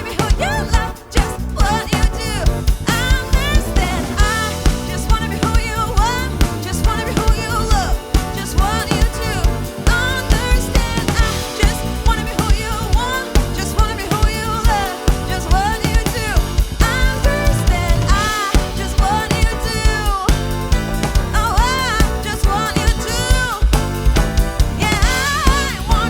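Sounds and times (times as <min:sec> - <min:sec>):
funk-soul band playing: 0:00.0 - 0:26.0
sliding melodic lead line: 0:00.0 - 0:26.0.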